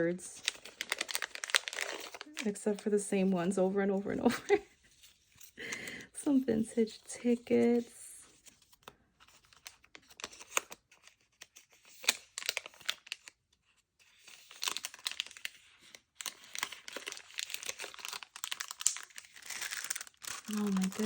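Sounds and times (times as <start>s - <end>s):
paper rustling and crinkling: 0.0s - 3.5s, 6.8s - 21.0s.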